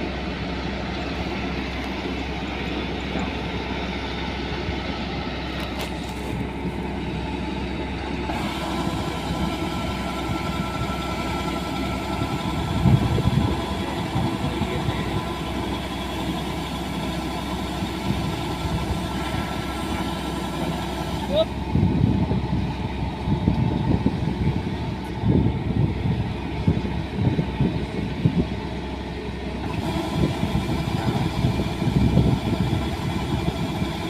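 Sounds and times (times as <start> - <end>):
engine humming steadily: 0.0 - 34.0.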